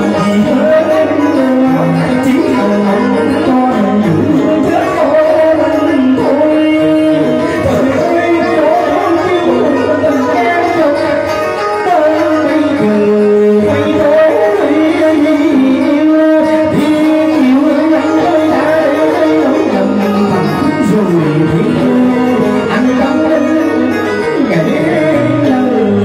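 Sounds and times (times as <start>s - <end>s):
live band playing: 0.0s - 26.0s
man singing through microphone: 0.0s - 26.0s.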